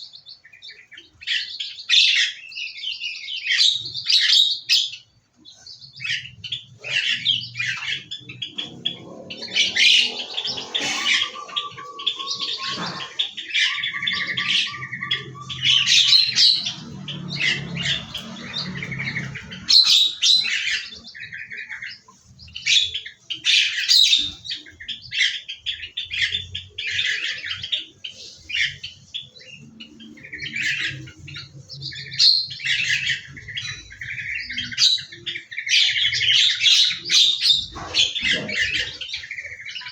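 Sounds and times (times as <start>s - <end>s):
rapid bird trill: 0.0s - 39.9s
small birds chirping and squawking: 0.0s - 39.9s.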